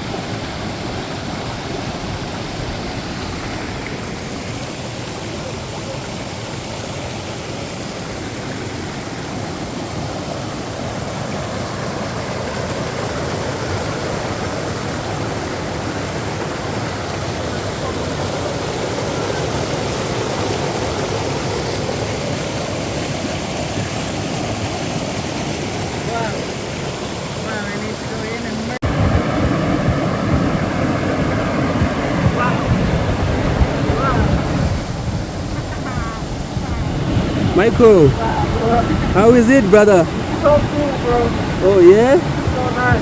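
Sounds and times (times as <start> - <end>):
waterfall rushing water: 0.0 - 43.0.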